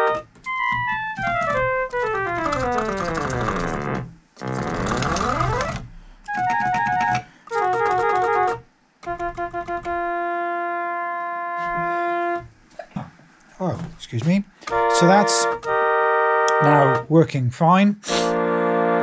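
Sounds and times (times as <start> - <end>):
string synthesizer chords: 0.0 - 12.6, 14.7 - 17.2, 18.3 - 19.0.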